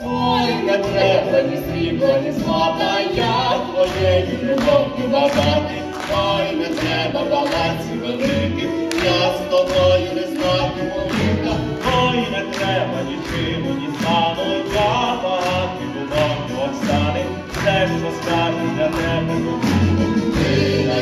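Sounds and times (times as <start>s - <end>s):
instrumental accompaniment with beat: 0.0s - 21.0s
voices singing duet: 0.0s - 21.0s.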